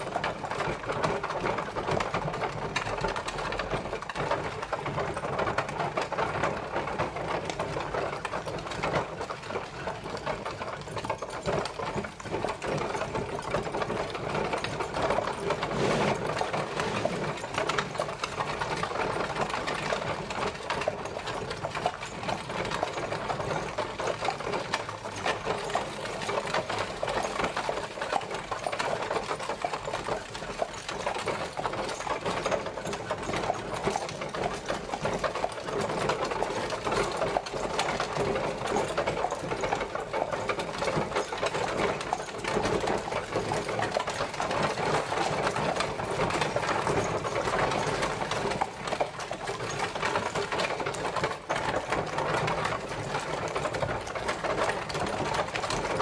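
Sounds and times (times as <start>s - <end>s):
horse-drawn carriage wheels clattering: 0.0s - 56.0s.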